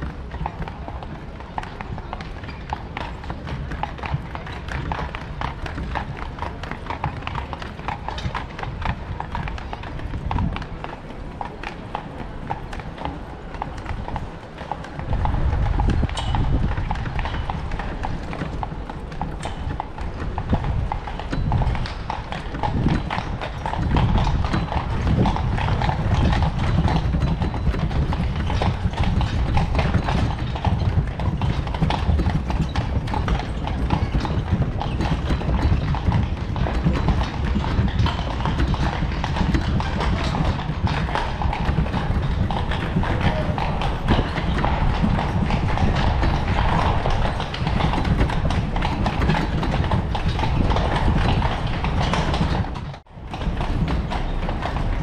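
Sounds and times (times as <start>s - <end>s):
carriage rolling rumble: 0.0s - 55.0s
horse hooves on cobblestones: 0.0s - 55.0s.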